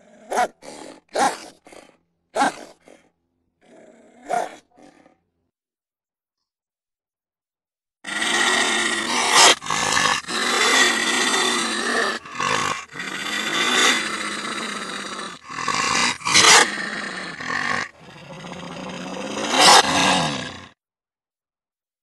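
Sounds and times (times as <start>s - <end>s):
rough animal growls: 0.0s - 5.2s, 8.1s - 20.8s.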